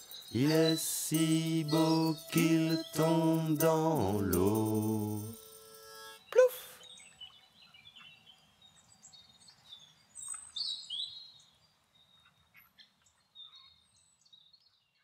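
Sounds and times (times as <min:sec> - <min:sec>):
songbirds chirping and calling: 0:00.0 - 0:15.0.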